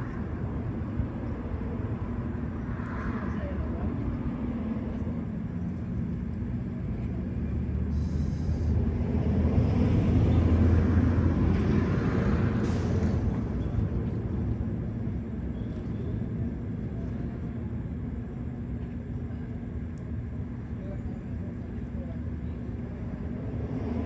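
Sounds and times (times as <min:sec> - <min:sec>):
passing vehicle engine rumble: 0:00.0 - 0:24.0.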